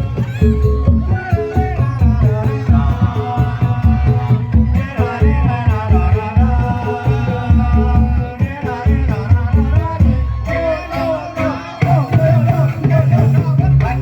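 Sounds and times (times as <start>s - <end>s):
band music with heavy bass: 0.0s - 14.0s
person singing: 0.0s - 14.0s.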